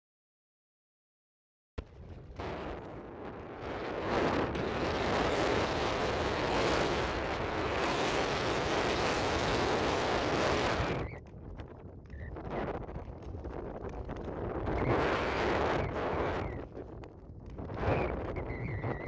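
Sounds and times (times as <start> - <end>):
skate blades gliding on ice: 1.8 - 19.0
wind on microphone: 1.8 - 19.0.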